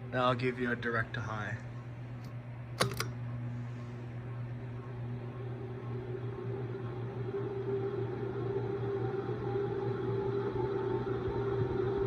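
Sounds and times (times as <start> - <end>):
ceiling fan motor whine: 0.0 - 12.0
steady hum: 0.0 - 12.0.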